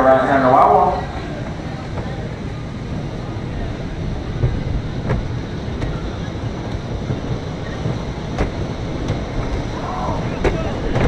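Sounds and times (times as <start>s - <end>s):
roller coaster wheels rumbling: 0.0s - 11.0s.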